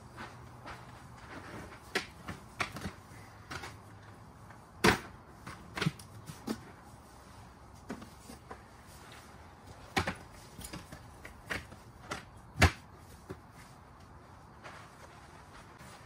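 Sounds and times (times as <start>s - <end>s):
camping gear knocks and clicks: 0.1s - 6.9s, 7.8s - 16.0s.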